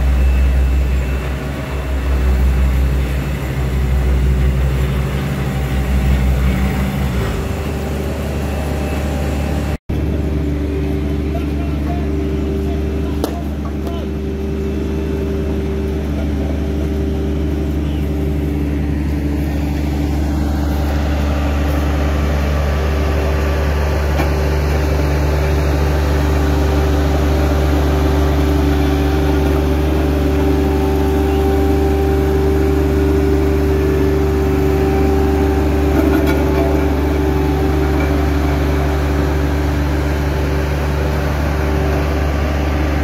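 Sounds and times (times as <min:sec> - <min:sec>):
construction machine diesel engines: 0:00.0 - 0:43.0.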